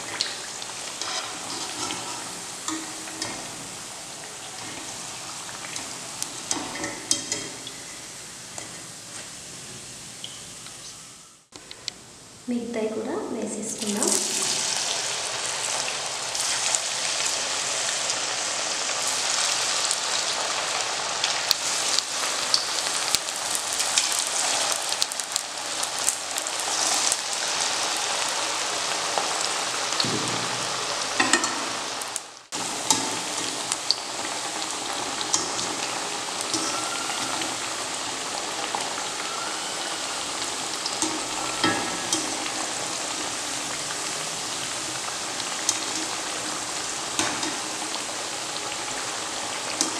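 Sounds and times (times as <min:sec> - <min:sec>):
food deep-frying in hot oil: 0:00.0 - 0:49.9.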